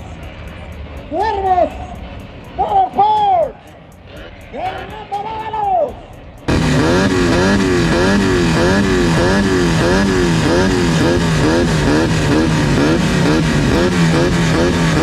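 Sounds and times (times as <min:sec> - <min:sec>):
race car engine revving: 0:00.0 - 0:05.4, 0:06.4 - 0:15.0.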